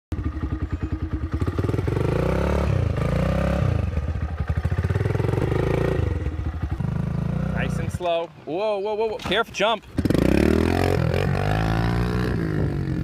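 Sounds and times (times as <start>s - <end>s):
dirt bike engine revving: 0.2s - 8.0s, 9.9s - 13.0s.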